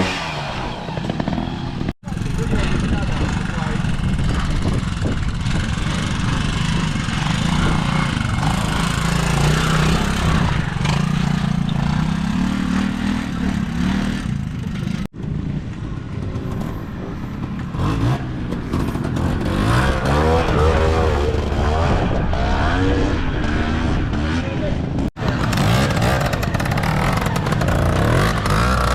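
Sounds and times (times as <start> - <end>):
motorcycle engine at low revs: 0.0 - 28.9
motorcycle engine revving: 0.0 - 28.9.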